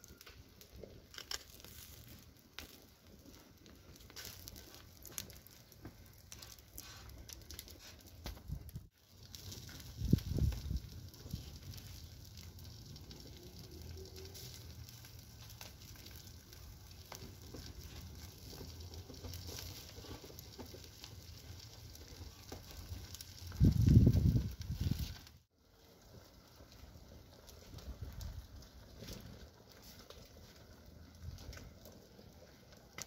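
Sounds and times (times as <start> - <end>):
fire crackling: 0.0 - 33.0
fish sizzling on grill: 0.0 - 33.0.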